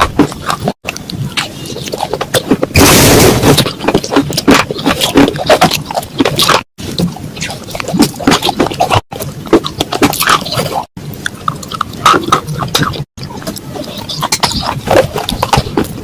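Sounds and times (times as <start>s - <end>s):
clay pots crunching: 0.0s - 16.0s.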